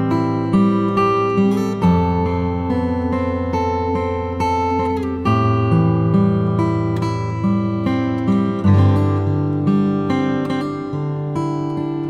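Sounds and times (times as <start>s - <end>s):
picked guitar music: 0.0s - 12.0s.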